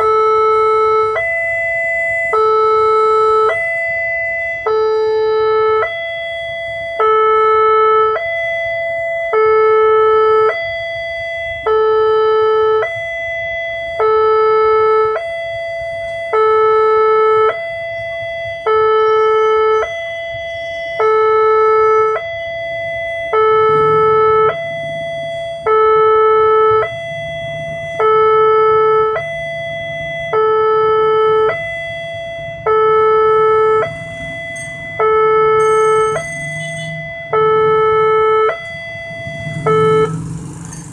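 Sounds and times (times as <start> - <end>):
two-tone crossing alarm: 0.0 - 40.9.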